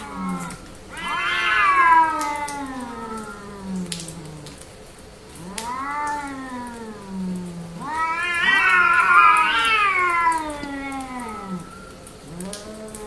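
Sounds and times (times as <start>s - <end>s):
cats yowling: 0.0s - 4.7s, 5.3s - 13.0s.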